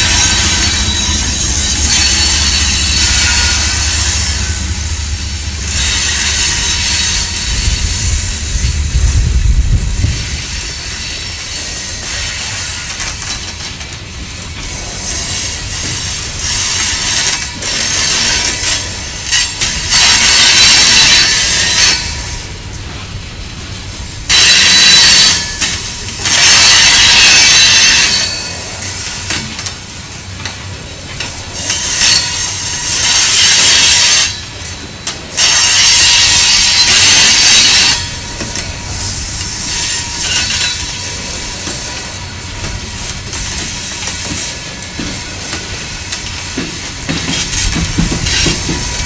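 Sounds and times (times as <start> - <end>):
rail cars rolling rumble: 0.0 - 49.0
train wheels squealing on rails: 0.0 - 49.0.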